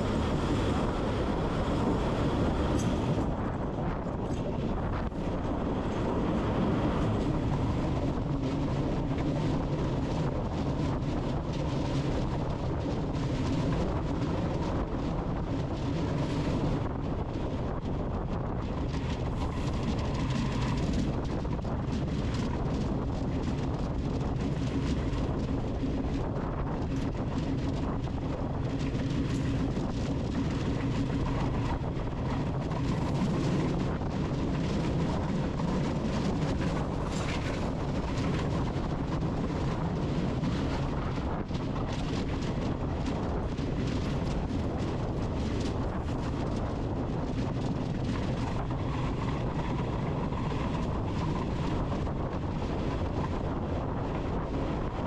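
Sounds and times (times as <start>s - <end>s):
train rumbling along track: 0.0s - 55.0s.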